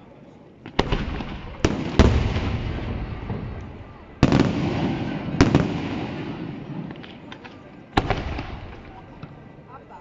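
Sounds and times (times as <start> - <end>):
faint firework crackles: 0.6 - 9.7
firework bangs with echo: 0.7 - 9.4.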